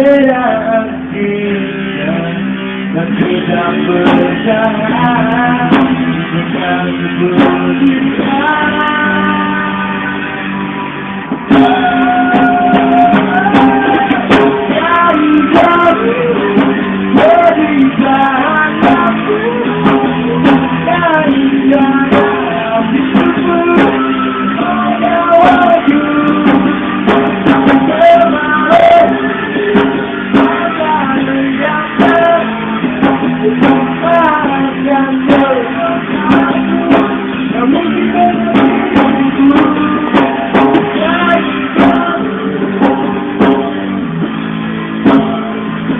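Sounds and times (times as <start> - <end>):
live band music: 0.0 - 45.9.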